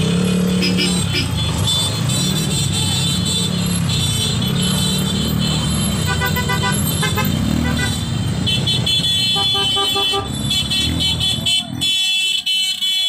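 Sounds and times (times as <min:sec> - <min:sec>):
motorcycle engines running: 0:00.0 - 0:11.8
motorcycle horns beeping: 0:00.0 - 0:13.0.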